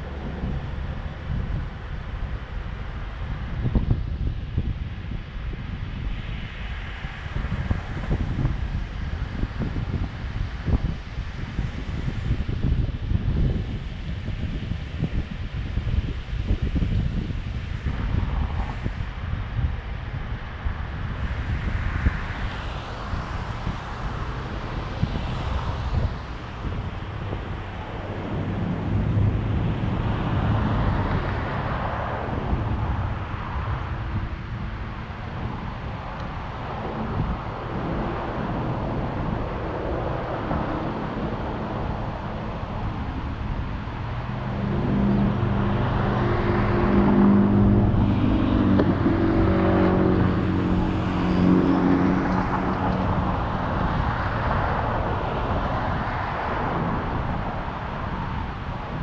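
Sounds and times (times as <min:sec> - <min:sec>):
road noise: 0:00.0 - 0:59.0.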